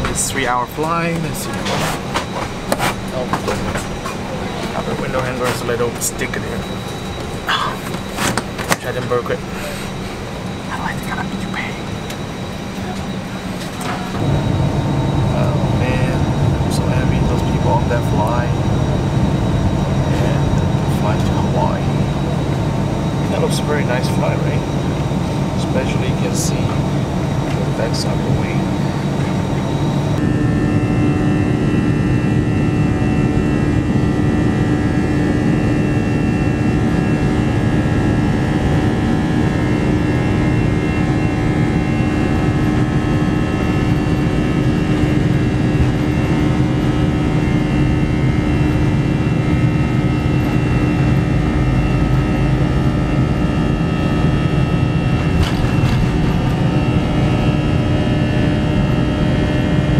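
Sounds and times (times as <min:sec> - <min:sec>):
heavy rumble: 0:00.0 - 0:59.9
jet engine hum: 0:00.0 - 0:59.9.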